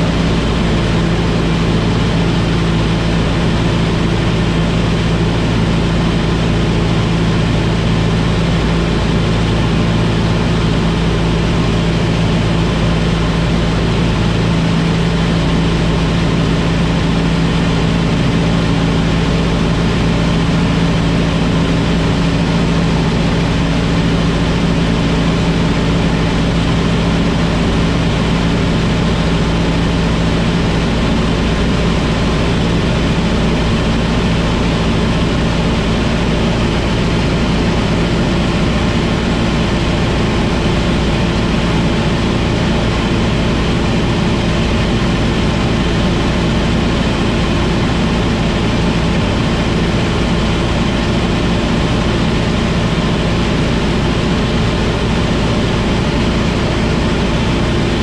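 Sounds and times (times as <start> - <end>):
light aircraft engine droning: 0.0 - 58.0.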